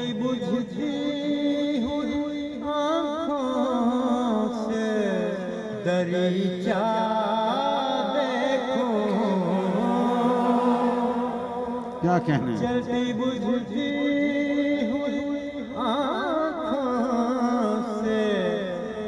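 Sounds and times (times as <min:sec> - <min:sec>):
man singing slow melodic chant: 0:00.0 - 0:19.0.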